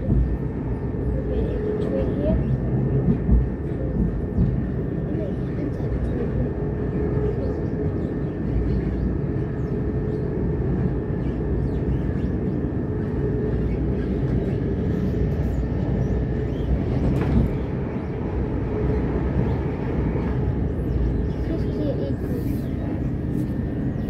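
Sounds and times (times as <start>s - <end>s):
train rumble and rail noise: 0.0s - 24.0s.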